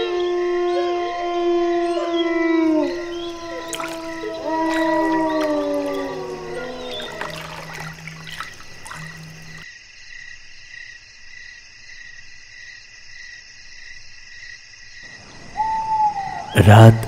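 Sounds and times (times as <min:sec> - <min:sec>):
chirping insects chorus: 0:00.1 - 0:17.0.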